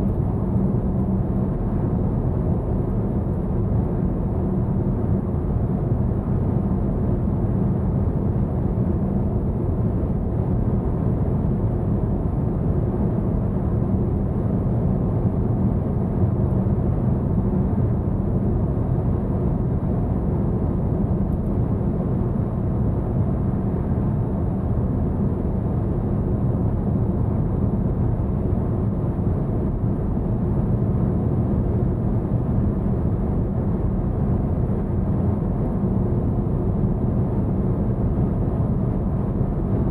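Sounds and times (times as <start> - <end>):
road and tyre rumble: 0.0 - 39.9.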